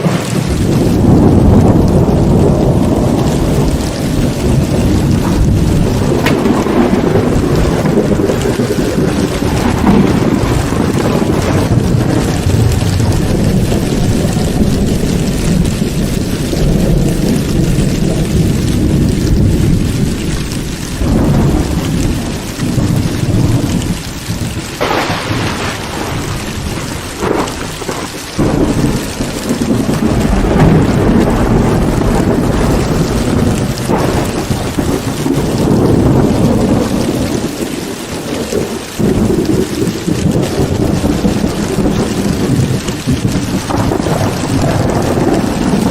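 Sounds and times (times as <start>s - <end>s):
heavy rain falling: 0.0s - 45.9s
rolling thunder: 0.0s - 45.9s.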